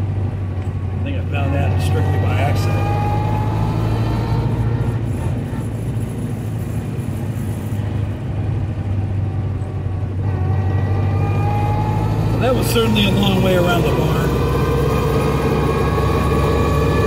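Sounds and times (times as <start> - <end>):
car engine running: 0.0 - 17.0
road and wind noise: 0.0 - 17.0.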